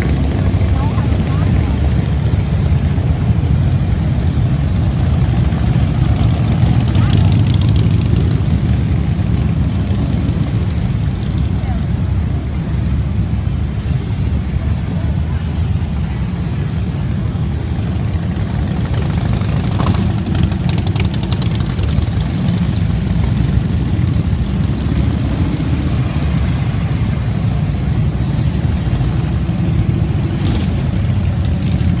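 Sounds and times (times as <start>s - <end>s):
motorcycle engines rumbling: 0.0s - 32.0s.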